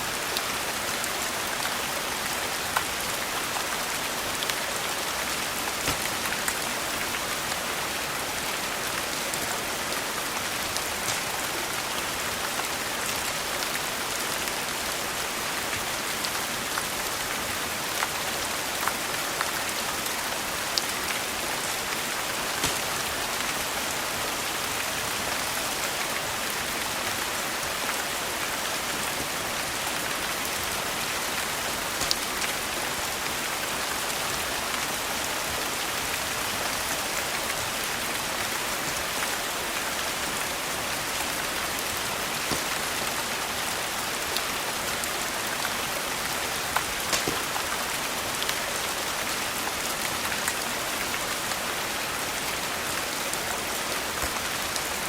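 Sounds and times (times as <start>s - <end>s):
rain pattering on a surface: 0.0s - 55.0s.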